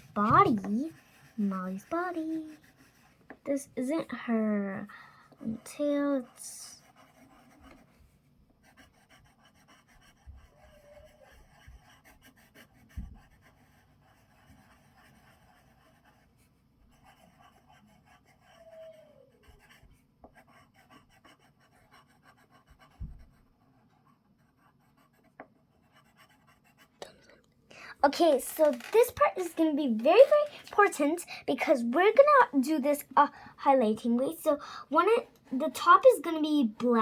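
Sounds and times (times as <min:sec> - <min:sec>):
pencil scratching on paper: 0:00.0 - 0:27.2, 0:28.0 - 0:37.0.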